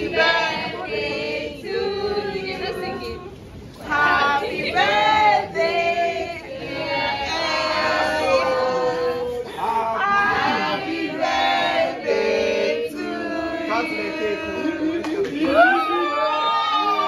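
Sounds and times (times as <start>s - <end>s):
group singing without accompaniment: 0.0s - 15.7s.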